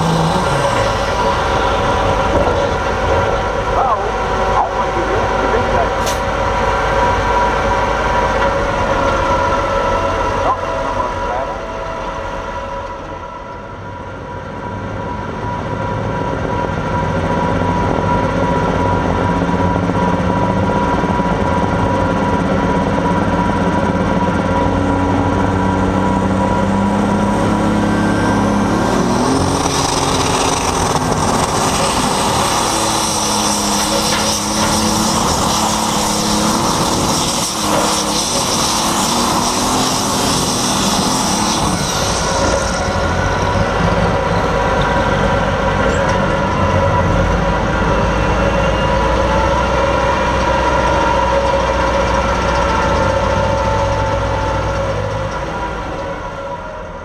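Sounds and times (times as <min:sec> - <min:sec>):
tractor engine at full throttle: 0:00.0 - 0:57.0.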